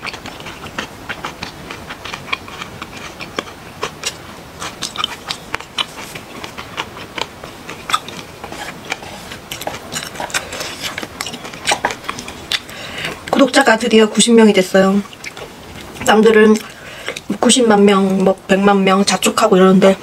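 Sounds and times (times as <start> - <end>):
chewing food: 0.0 - 20.0.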